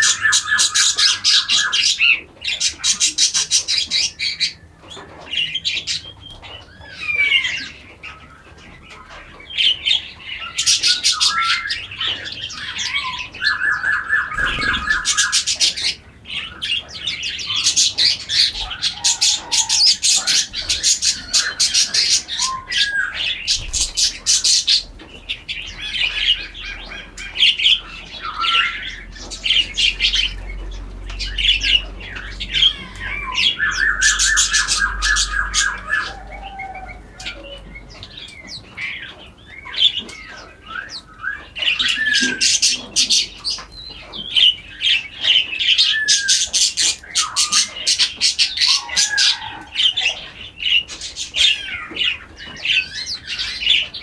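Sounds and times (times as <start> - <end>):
birds singing and chirping: 0.0 - 54.0.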